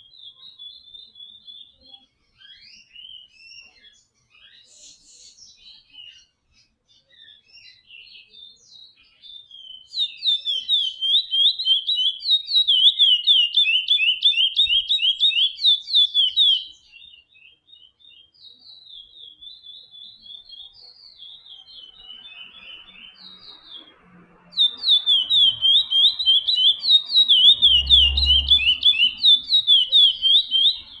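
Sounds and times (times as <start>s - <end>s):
finch singing: 0.0s - 31.0s.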